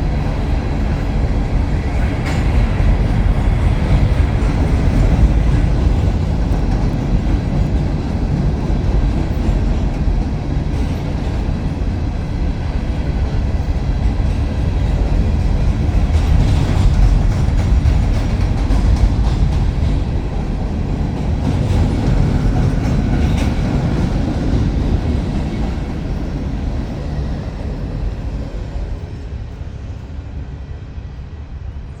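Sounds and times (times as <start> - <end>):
train wheel clatter: 0.0 - 30.2
freight cars rumbling: 0.0 - 30.5.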